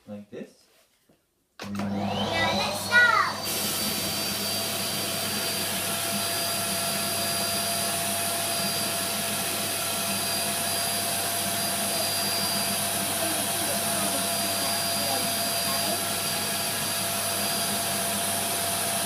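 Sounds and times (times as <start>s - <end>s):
vacuum cleaner whining: 1.6s - 19.0s.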